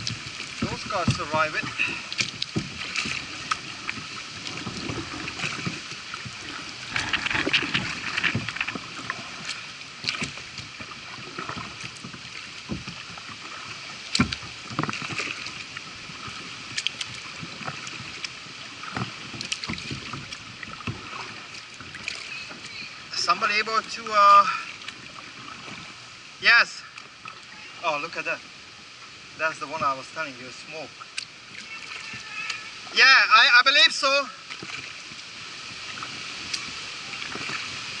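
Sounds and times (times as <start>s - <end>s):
kayak paddle splashing: 0.0s - 38.0s
water washing against hull: 0.0s - 38.0s.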